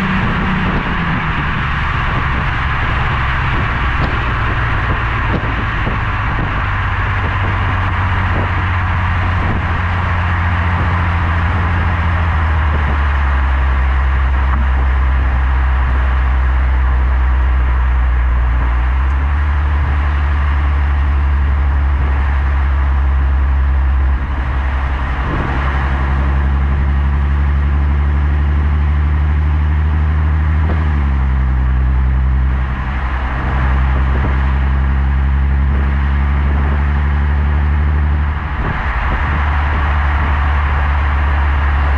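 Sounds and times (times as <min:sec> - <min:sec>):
car exhaust drone: 0:00.0 - 0:41.9.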